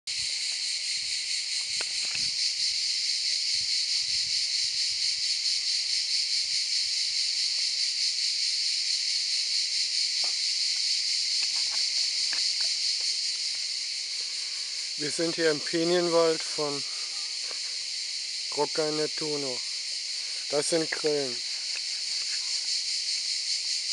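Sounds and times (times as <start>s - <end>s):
cicadas buzzing: 0.1s - 23.9s.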